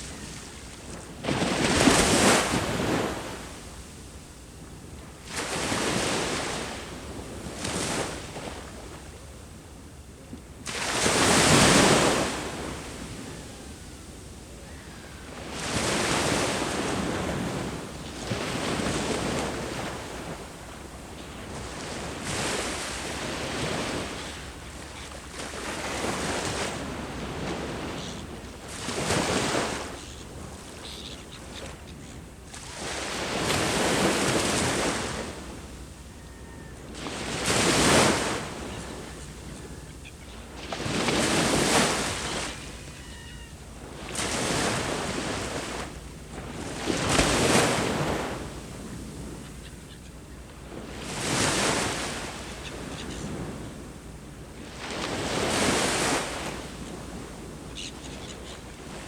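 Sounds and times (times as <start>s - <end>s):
sea waves breaking on shore: 0.0s - 4.1s, 5.0s - 9.1s, 10.6s - 59.0s
low rumble of the sea: 0.0s - 59.0s.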